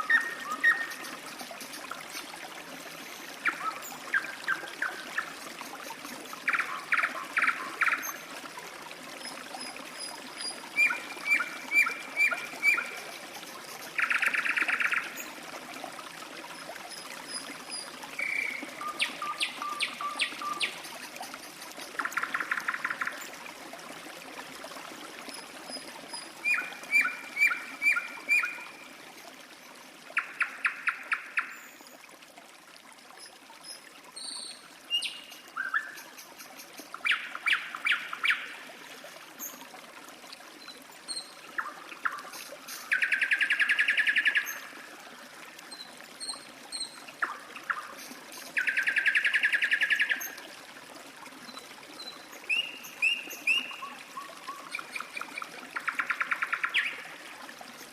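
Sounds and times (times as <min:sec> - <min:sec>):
running water trickling: 0:00.0 - 0:57.9.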